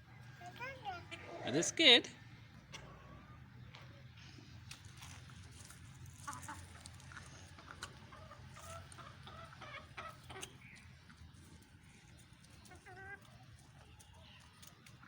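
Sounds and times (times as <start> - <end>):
chickens clucking: 0.1 - 1.9, 2.5 - 4.8, 6.1 - 15.0.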